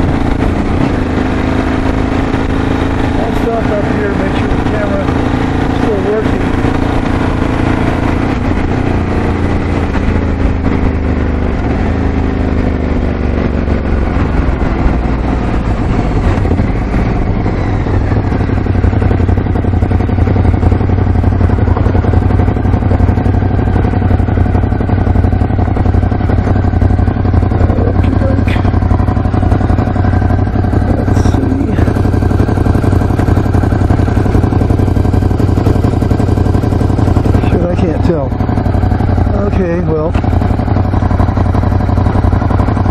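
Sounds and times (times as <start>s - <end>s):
motorcycle engine slowing: 0.0s - 42.9s.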